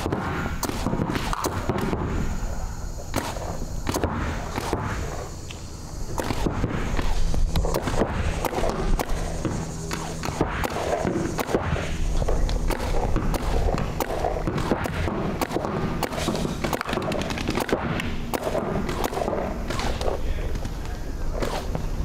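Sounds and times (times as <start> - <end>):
paintball markers firing: 0.0 - 2.1, 3.1 - 21.9.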